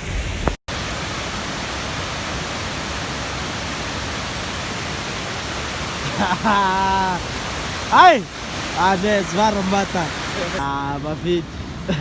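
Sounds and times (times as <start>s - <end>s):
waterfall roaring: 0.4s - 12.0s.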